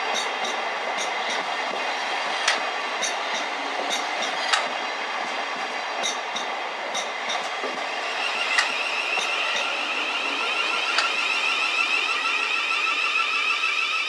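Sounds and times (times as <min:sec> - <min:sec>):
train wheels rushing on rail: 0:00.0 - 0:14.0.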